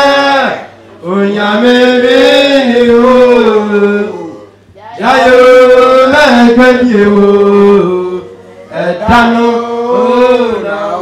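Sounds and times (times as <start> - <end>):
person singing a chant: 1.3 - 11.0.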